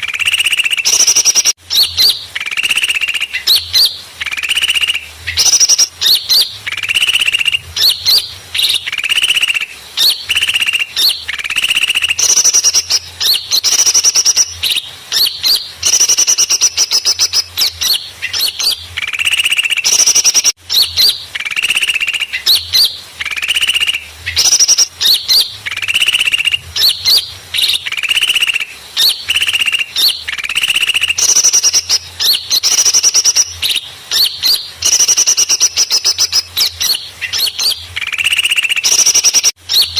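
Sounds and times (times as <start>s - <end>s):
songbirds chattering trills: 0.0s - 39.9s.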